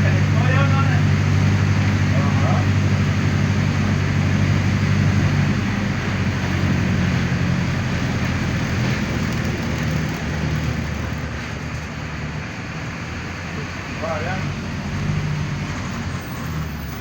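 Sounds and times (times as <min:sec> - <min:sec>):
bus diesel engine running: 0:00.0 - 0:17.0
road noise: 0:00.0 - 0:17.0.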